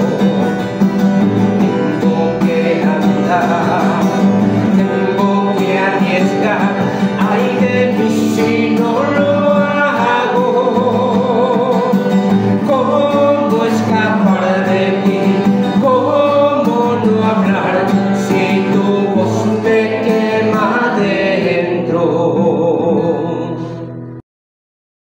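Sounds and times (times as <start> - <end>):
instrumental backing music: 0.0 - 24.2
person singing religious song: 1.8 - 23.9.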